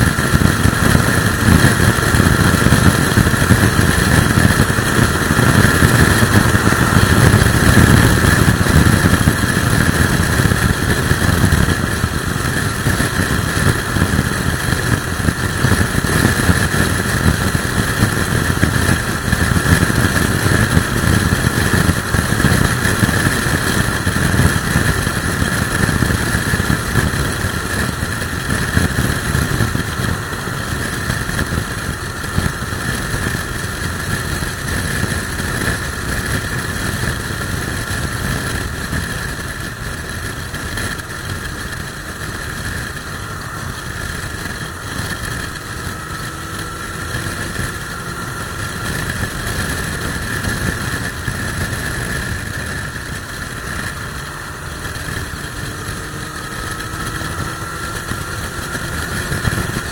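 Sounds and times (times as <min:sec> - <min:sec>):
motorcycle engine: 0:00.0 - 0:59.9
wind rushing on microphone: 0:00.0 - 0:59.9.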